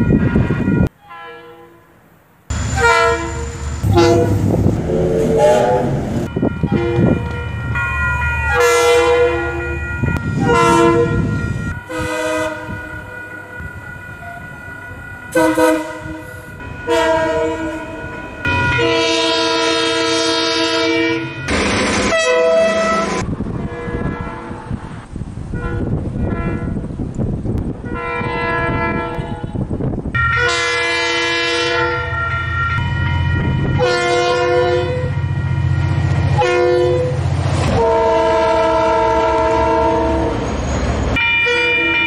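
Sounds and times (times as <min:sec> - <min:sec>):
train horn blasts: 0:00.0 - 0:01.9, 0:02.5 - 0:07.6, 0:08.4 - 0:13.6, 0:15.3 - 0:26.9, 0:27.8 - 0:40.4, 0:41.2 - 0:42.0
diesel locomotive engine rumble: 0:02.0 - 0:42.0.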